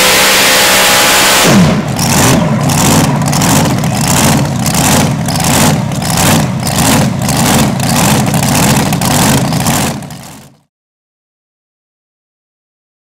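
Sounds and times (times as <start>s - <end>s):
tractor engine at full throttle: 0.0s - 10.7s.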